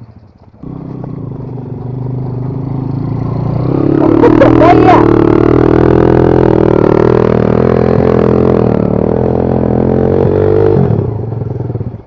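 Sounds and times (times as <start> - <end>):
dirt bike engine revving: 0.6 - 12.0.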